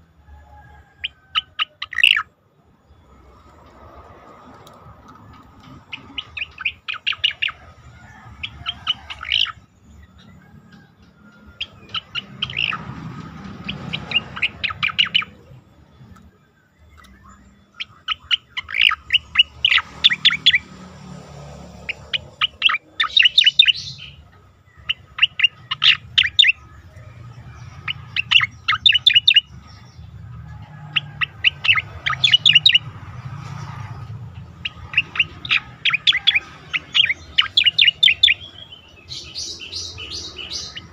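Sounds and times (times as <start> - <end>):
bird chirping in rapid bursts: 1.0 - 3.4, 5.2 - 10.4, 11.4 - 20.8, 21.4 - 40.9.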